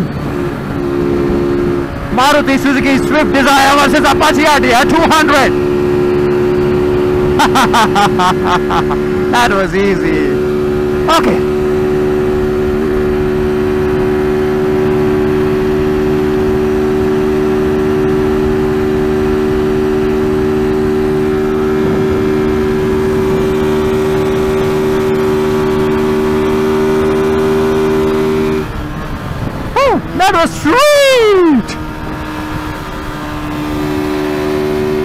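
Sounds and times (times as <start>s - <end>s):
motorcycle engine at high revs: 0.0s - 35.0s.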